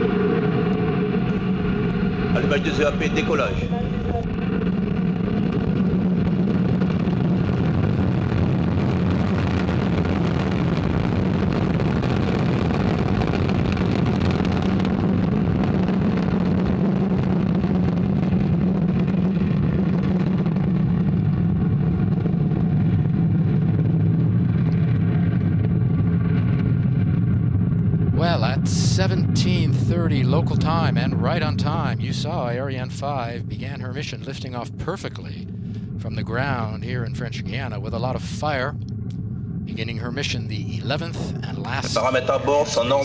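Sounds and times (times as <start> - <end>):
rocket engines roaring: 0.0 - 43.0.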